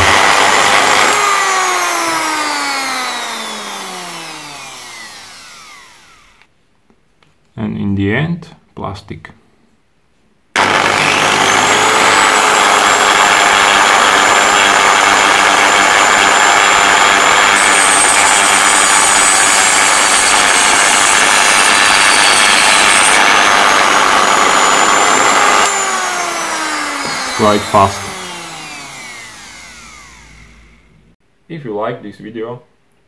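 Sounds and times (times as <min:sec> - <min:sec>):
grinder winding down: 0:00.0 - 0:06.5, 0:10.6 - 0:31.2
rotary grinder whine: 0:00.0 - 0:06.5, 0:10.6 - 0:31.2.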